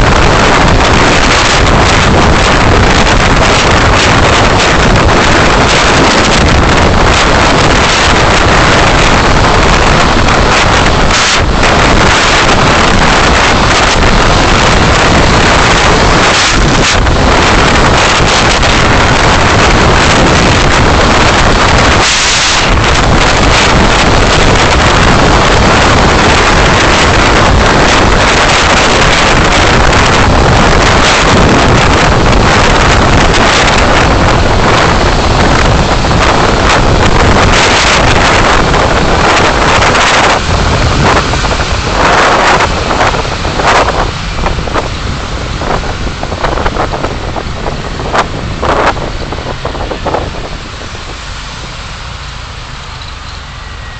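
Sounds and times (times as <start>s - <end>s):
car road and wind noise: 0.0s - 53.9s.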